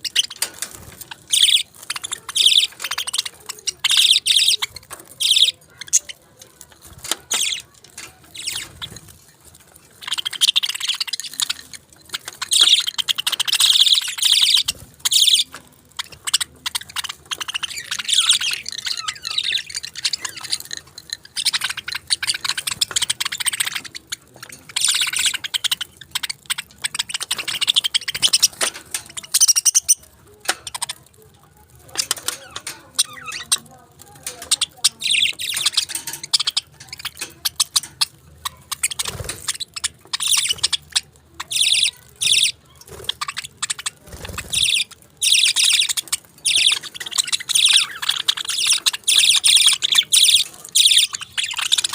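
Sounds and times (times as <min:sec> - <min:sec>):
parakeets chirping: 0:00.0 - 0:51.9.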